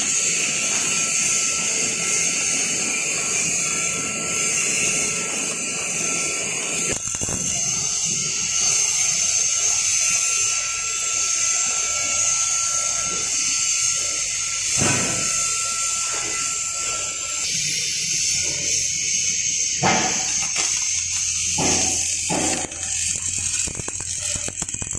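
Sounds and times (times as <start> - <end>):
thin steady whine: 0.0 - 24.9
welding arc hissing: 0.0 - 24.9.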